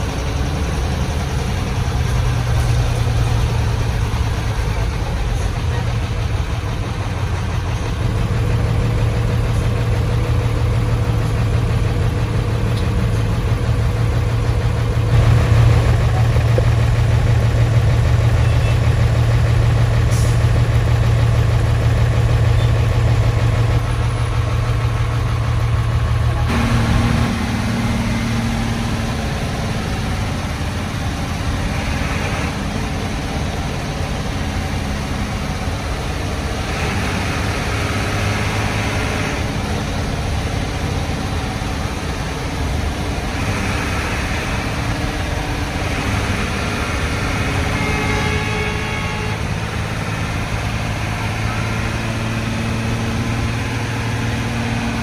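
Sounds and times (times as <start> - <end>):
diesel bus engine growling: 0.0 - 55.0.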